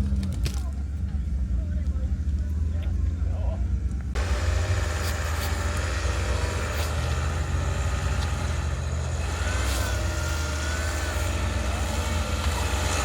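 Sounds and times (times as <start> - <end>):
jeep engine low rumble: 0.0 - 13.0.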